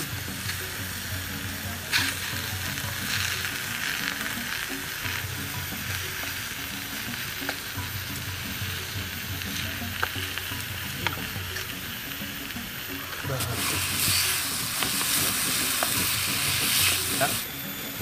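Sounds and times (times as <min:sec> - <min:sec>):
mushrooms sizzling in hot oil: 0:00.0 - 0:18.0.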